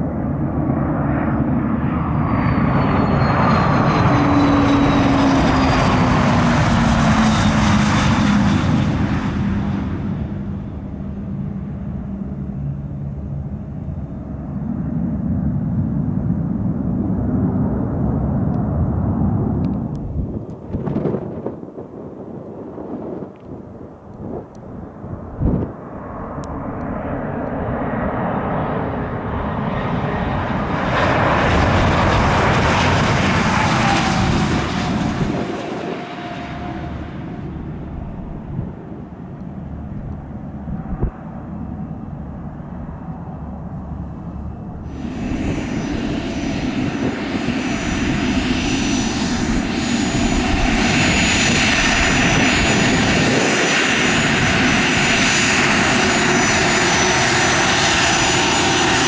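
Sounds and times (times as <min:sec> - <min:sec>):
jet engines whining while taxiing: 0:00.0 - 0:59.0
jet landing: 0:00.0 - 0:59.0.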